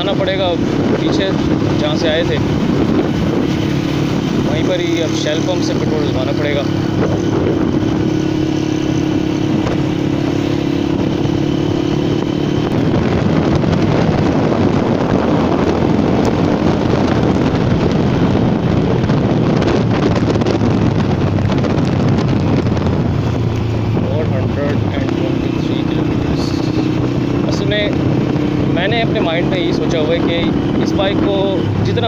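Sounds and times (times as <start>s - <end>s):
motorcycle engine running: 0.0s - 32.0s
road and wind noise: 0.0s - 32.0s.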